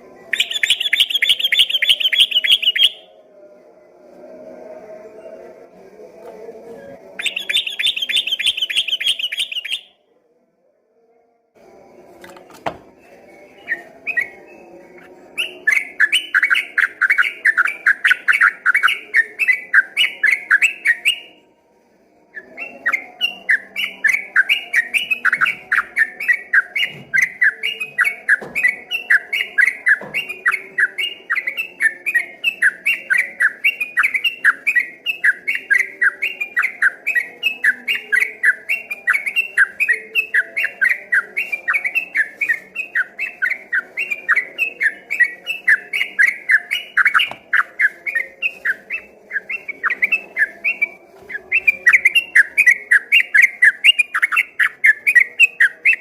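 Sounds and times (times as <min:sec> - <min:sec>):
bulbul singing chattering song: 0:00.0 - 0:03.2, 0:06.9 - 0:10.0, 0:12.2 - 0:21.5, 0:22.2 - 0:56.0.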